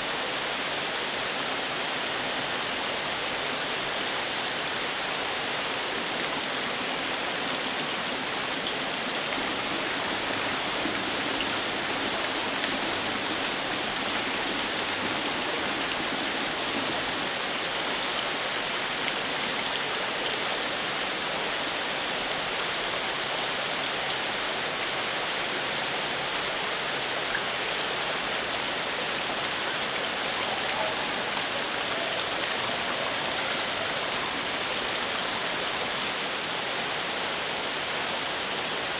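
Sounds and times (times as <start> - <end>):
water jets splashing into tanks: 4.0 - 38.9.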